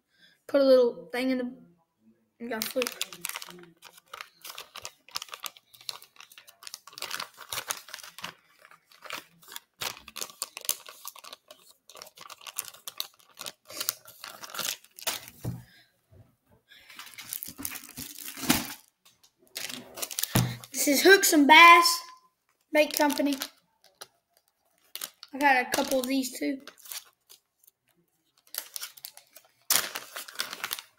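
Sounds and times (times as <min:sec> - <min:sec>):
plastic package crinkling: 0:02.5 - 0:15.6, 0:16.8 - 0:20.8, 0:22.0 - 0:30.9.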